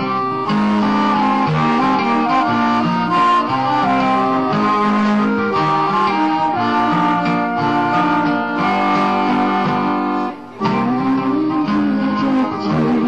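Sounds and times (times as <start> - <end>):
accordion holding chords: 0.0 - 13.0
guitar strumming: 0.0 - 13.0.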